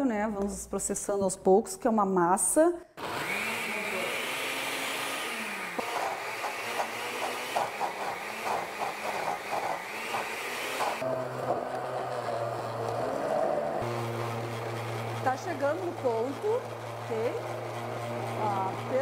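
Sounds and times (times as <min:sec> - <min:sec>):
countertop blender running: 0:03.0 - 0:19.0.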